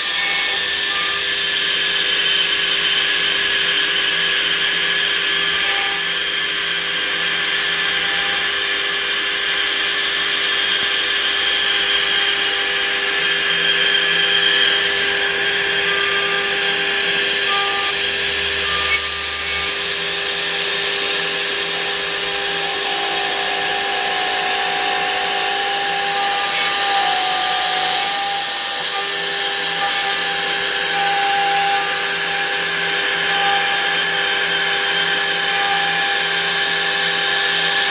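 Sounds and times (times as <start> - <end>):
bit cutting wood: 0.0 - 37.9
router spindle whine: 0.0 - 37.9.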